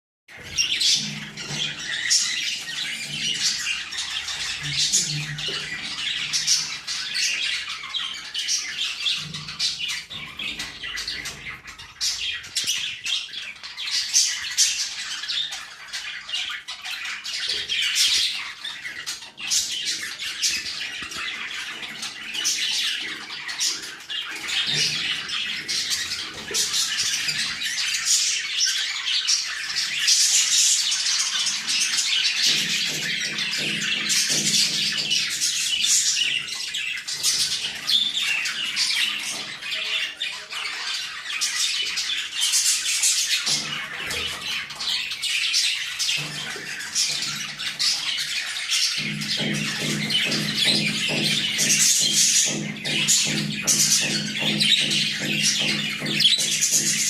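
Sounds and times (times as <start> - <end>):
budgerigars chattering and squawking: 0.3 - 57.0.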